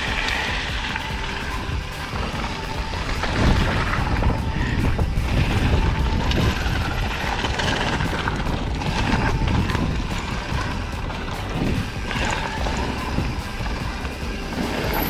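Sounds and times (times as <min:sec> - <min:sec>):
tyres crunching over gravel: 0:00.0 - 0:15.0
wind rumble on microphone: 0:00.0 - 0:15.0.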